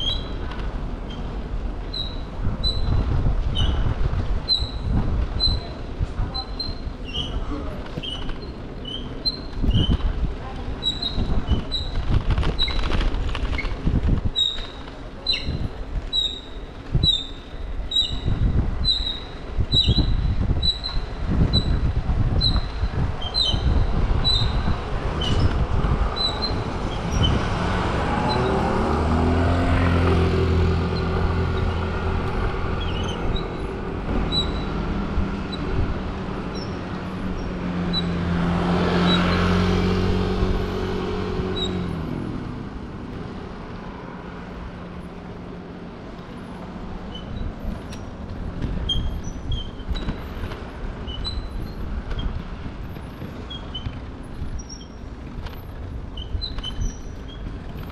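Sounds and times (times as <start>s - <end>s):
bicycle squeaking: 0.0s - 29.0s, 29.8s - 42.2s, 46.1s - 57.9s
bicycle bumpy rumble: 0.0s - 57.9s
motor vehicle engine hum: 0.0s - 57.9s.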